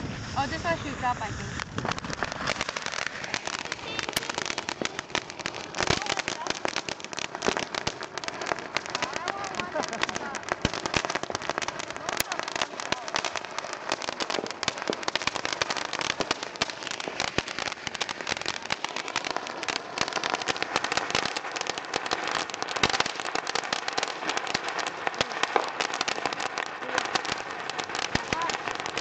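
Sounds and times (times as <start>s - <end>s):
firework fountain crackling: 0.0s - 29.0s.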